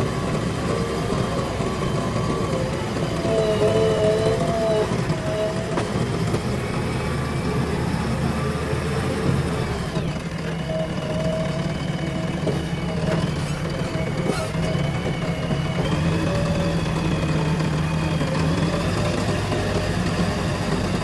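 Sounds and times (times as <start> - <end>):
diesel engine running: 0.0 - 21.0
machine whining: 0.0 - 21.0.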